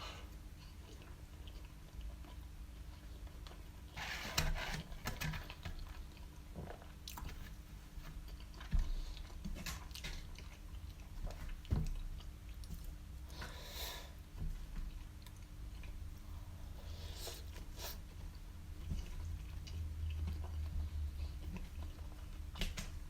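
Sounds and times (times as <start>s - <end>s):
close chewing and biting: 0.5s - 4.0s, 5.1s - 13.4s, 14.6s - 23.0s.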